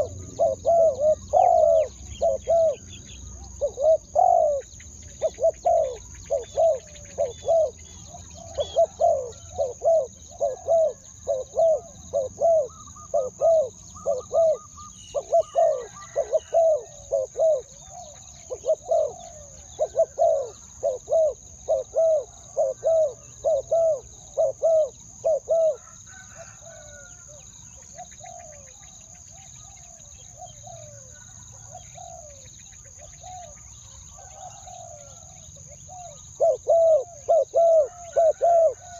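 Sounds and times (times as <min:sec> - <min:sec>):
dove cooing: 0:00.0 - 0:38.9
high insect drone: 0:00.0 - 0:38.9.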